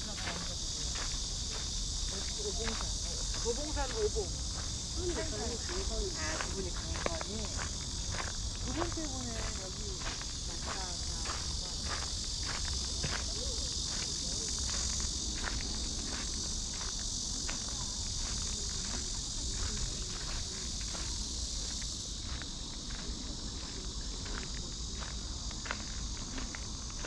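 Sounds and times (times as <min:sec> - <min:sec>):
cicadas buzzing: 0:00.0 - 0:27.0
footsteps on a path: 0:00.0 - 0:27.0.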